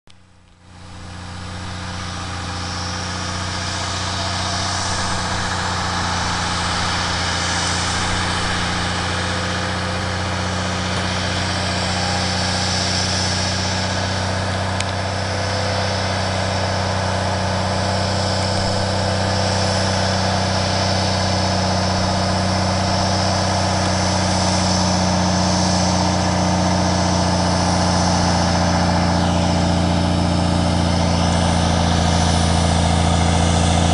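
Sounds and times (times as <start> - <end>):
truck diesel engine droning: 0.2 - 33.9.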